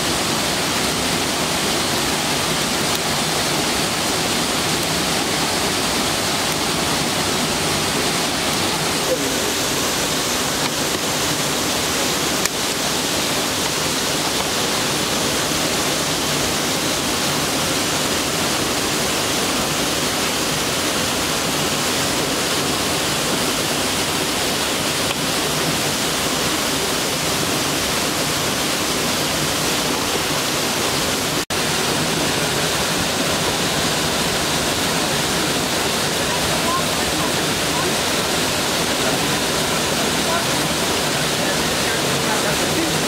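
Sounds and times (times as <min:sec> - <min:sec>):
waterfall roaring: 0:00.0 - 0:43.0.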